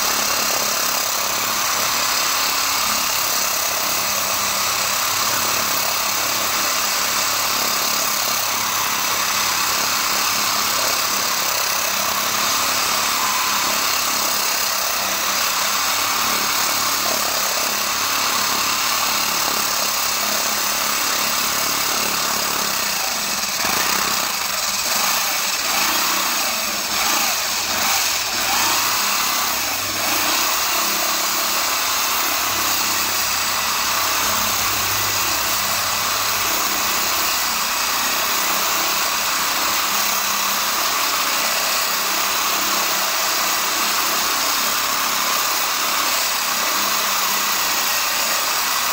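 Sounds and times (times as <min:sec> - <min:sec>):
core drill grinding into concrete: 0:00.0 - 0:48.9
drill bit knocking: 0:00.0 - 0:48.9.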